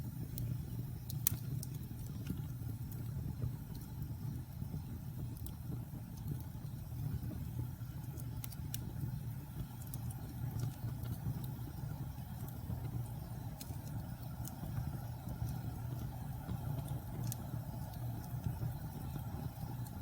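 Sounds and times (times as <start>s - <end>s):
fire crackles and pops: 0.0s - 20.0s
logs burning in fireplace: 0.0s - 20.0s.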